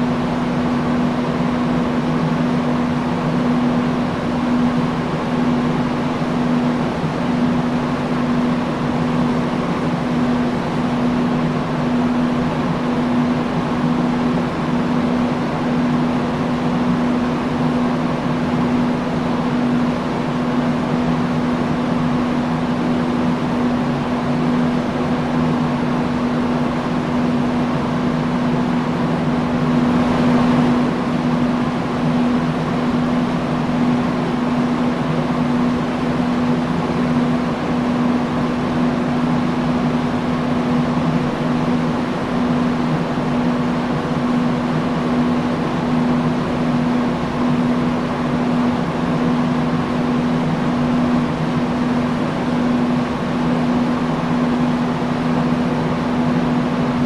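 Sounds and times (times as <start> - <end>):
industrial fan humming: 0.0 - 57.0.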